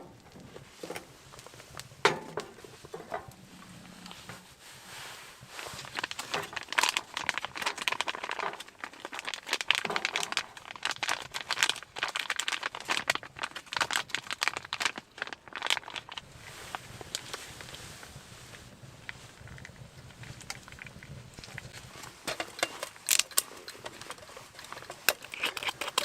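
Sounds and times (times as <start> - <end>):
material crinkling and rustling: 0.0 - 26.0.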